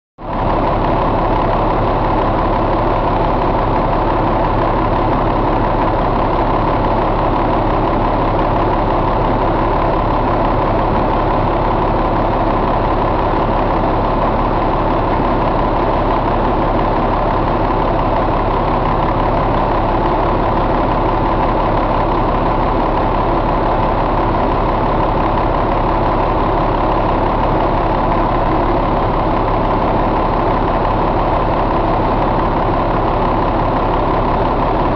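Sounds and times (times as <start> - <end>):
diesel truck engine idling: 0.2 - 34.9.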